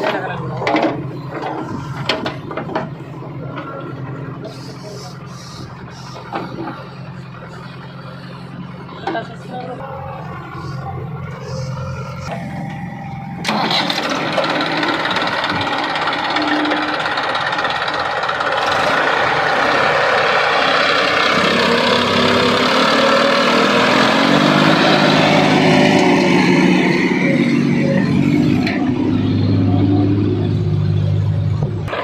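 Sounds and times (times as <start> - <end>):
heavy diesel engine revving: 0.0 - 32.0.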